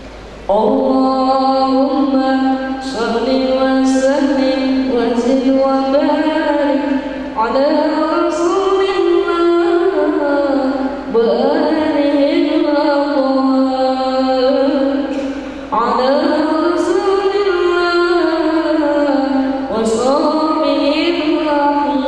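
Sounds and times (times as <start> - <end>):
boy singing into microphone: 0.5 - 22.0.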